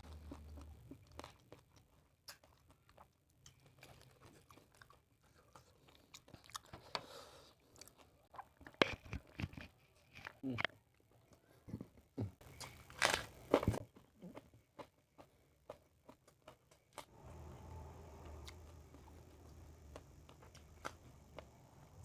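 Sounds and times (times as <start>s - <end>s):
crunching and chewing food: 0.0s - 22.0s.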